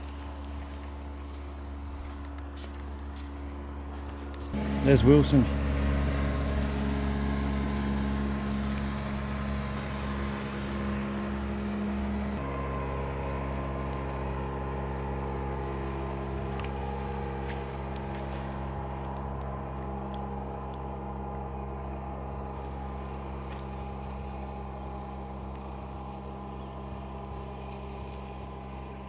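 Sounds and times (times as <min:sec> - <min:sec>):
motorboat engine droning: 0:00.0 - 0:29.0.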